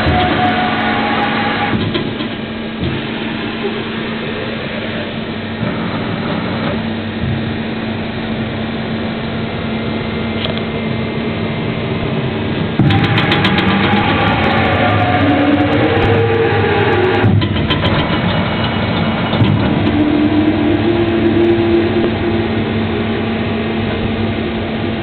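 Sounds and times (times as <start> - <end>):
mechanical whirr: 0.0 - 9.4, 11.9 - 25.0
constant low hum: 0.0 - 25.0.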